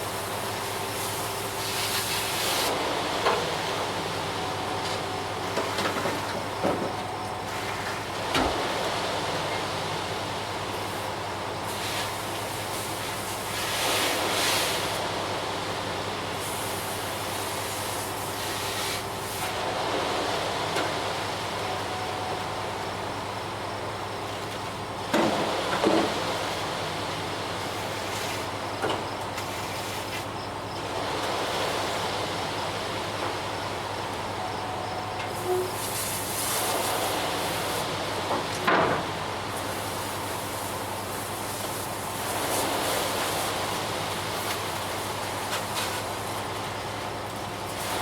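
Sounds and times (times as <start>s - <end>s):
concrete truck engine humming: 0.0s - 48.0s.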